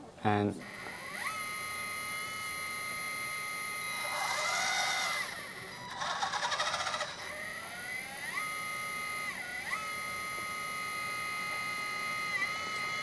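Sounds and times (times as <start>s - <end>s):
hydraulic pump whining: 0.6s - 13.0s.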